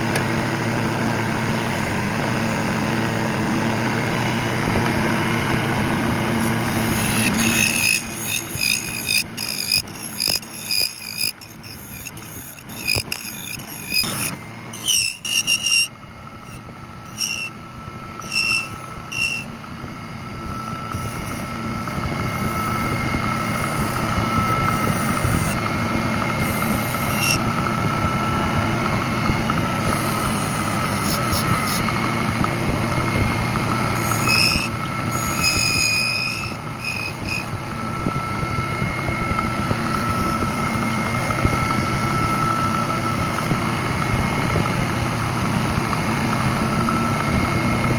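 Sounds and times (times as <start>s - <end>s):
woodworking machinery whining: 0.0s - 47.9s.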